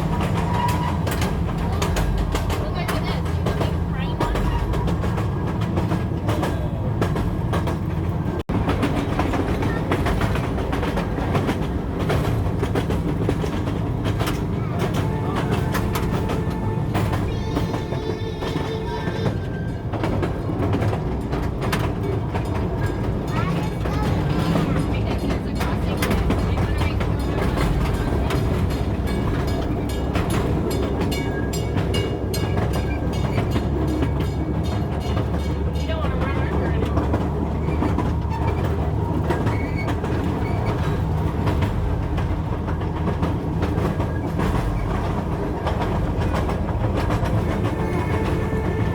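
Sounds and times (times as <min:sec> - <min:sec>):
train rumbling: 0:00.0 - 0:48.9
wheels clacking on rails: 0:00.0 - 0:48.9.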